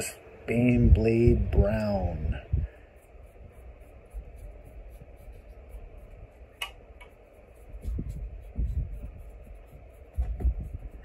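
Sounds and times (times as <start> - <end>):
faint scratchy brushing: 0.9 - 11.0.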